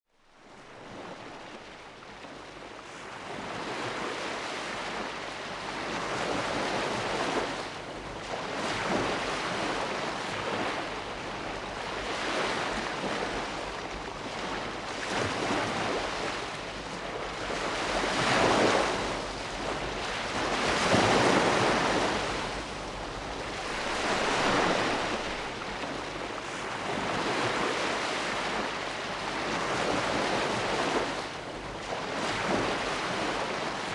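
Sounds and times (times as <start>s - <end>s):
sea waves washing ashore: 0.2s - 33.9s.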